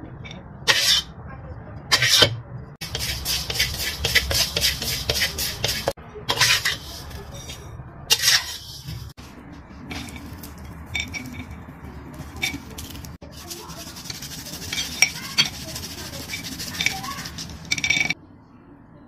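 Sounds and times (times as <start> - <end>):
metal spatula scraping wok: 0.7 - 1.1, 1.9 - 9.2, 9.9 - 18.2.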